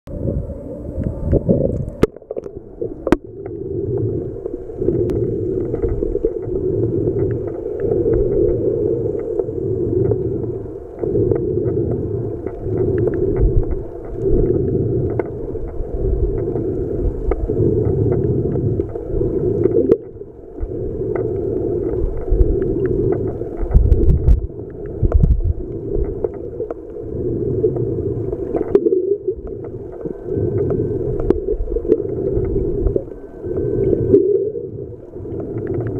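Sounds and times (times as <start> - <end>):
underwater rushing water: 0.1 - 35.9
small underwater clicks: 0.9 - 35.9.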